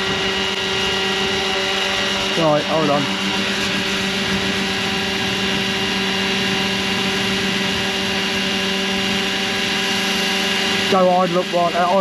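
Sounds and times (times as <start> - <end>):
model helicopter rotor whine: 0.0 - 12.0.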